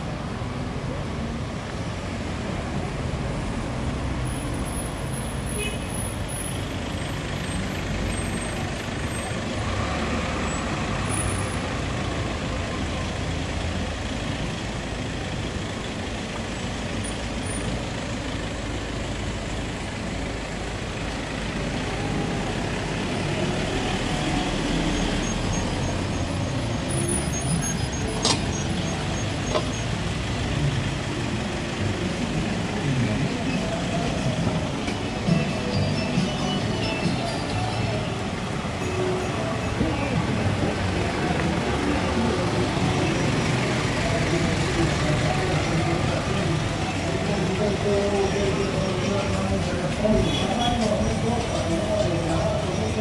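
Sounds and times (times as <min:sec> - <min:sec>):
slow traffic engines rumbling: 0:00.0 - 0:53.0.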